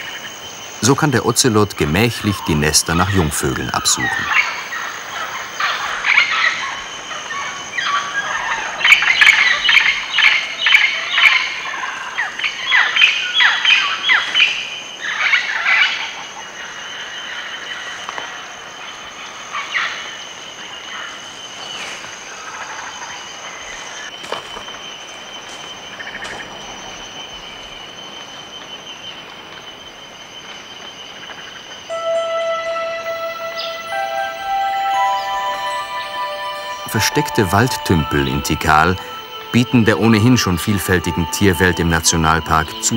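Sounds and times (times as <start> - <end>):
high insect trill: 0.0 - 42.9.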